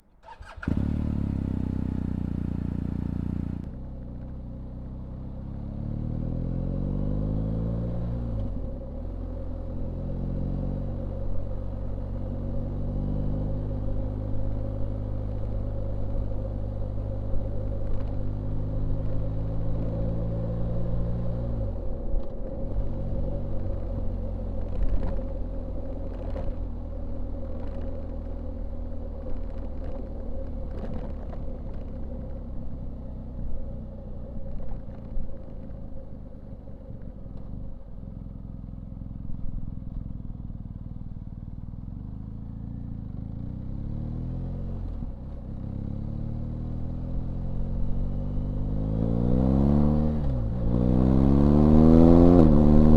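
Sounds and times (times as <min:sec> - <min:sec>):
road noise: 0:00.0 - 0:52.9
motorcycle engine accelerating: 0:00.2 - 0:52.9.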